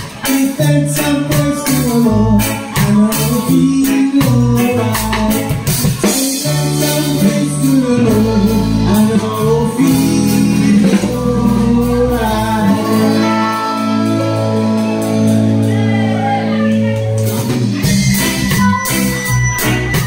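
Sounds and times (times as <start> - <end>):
drum kit with cymbal hits: 0.0 - 20.0
electric bass low notes: 0.0 - 20.0
electric keyboard chords: 0.0 - 20.0.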